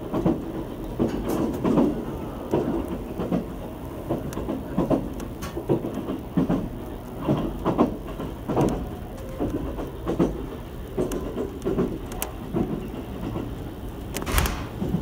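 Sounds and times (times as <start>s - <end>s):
train running rumble: 0.0s - 15.0s
wheels clattering over rail joints: 2.6s - 15.0s.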